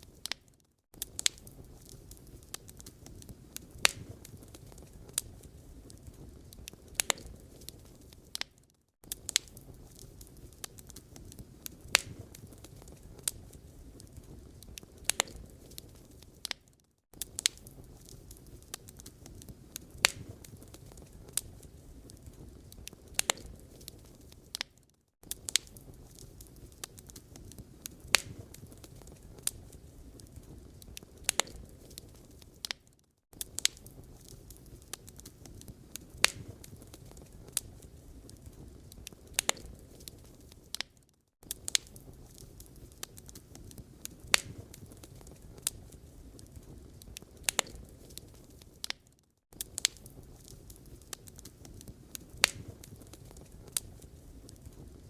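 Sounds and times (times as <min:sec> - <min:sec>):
low rumble of burning: 0:00.0 - 0:55.0
wood fire crackling and popping: 0:00.0 - 0:55.0.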